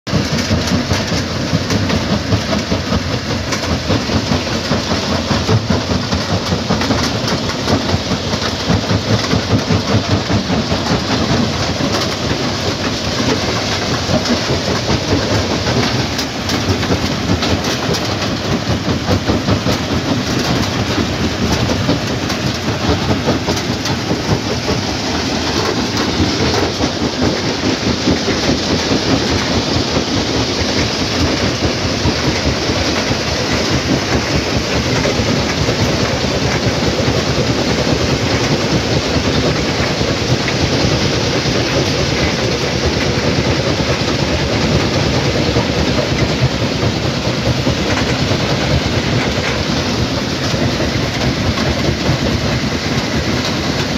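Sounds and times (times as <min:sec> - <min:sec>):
stone crushing machinery rattling: 0:00.1 - 0:53.9.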